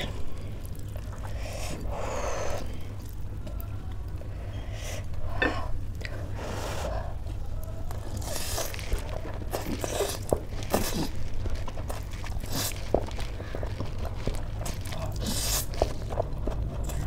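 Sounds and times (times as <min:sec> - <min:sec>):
chewing with mouth clicks: 0:00.0 - 0:04.3, 0:07.2 - 0:17.0
low steady hum: 0:00.0 - 0:17.0.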